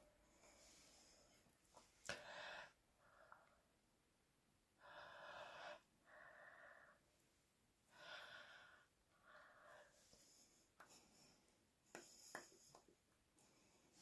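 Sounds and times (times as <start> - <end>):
faint slow breathing: 0.2 - 3.8, 4.8 - 7.2, 7.8 - 14.0.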